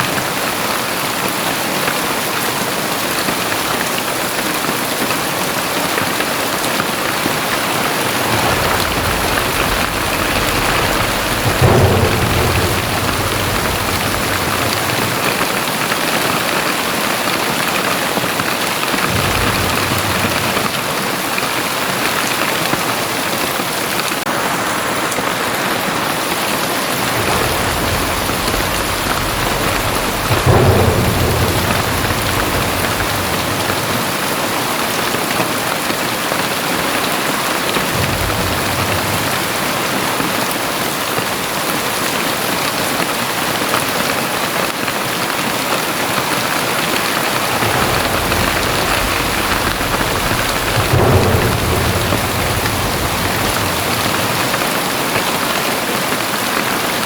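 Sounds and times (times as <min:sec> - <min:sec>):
heavy rain hissing: 0:00.0 - 0:57.0
low thunder rolls: 0:03.1 - 0:57.0.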